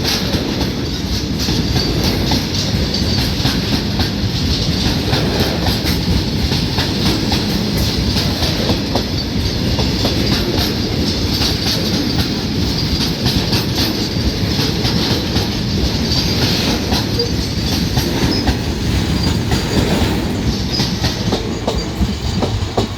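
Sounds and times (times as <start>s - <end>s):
train wheels clicking over rail joints: 0.0s - 22.9s.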